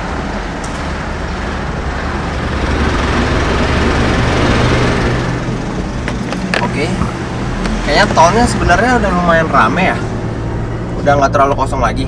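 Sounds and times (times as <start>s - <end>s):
car engine hum: 0.0s - 12.0s.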